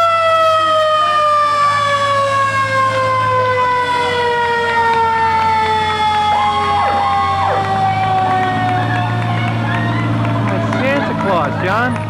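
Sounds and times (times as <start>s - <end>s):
siren-like tone winding down: 0.0s - 10.2s.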